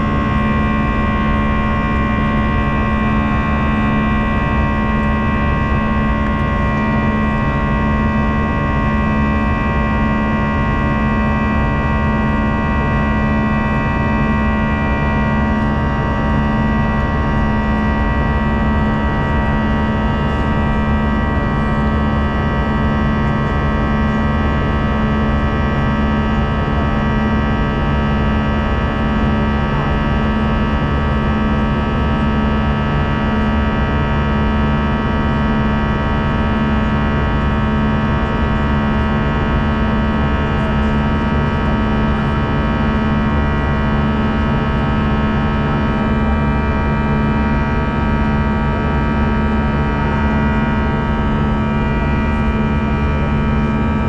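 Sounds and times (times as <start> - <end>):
jet cabin engine rush: 0.0 - 54.0
low hum: 0.0 - 54.0.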